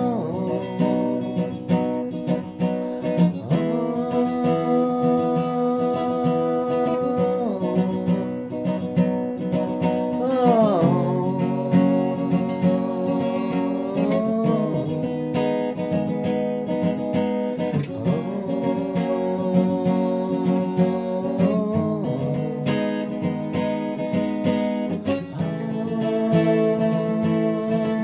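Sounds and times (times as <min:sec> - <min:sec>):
acoustic guitar strummed slowly: 0:00.0 - 0:28.0.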